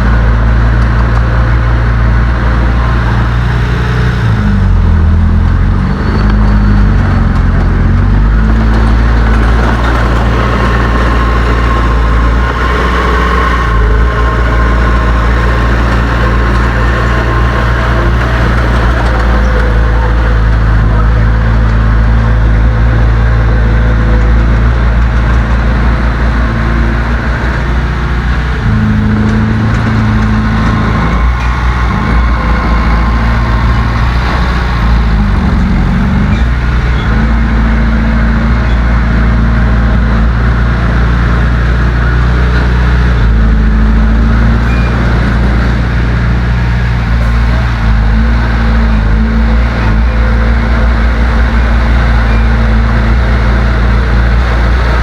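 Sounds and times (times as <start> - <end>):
heavy diesel engine revving: 0.0 - 55.0.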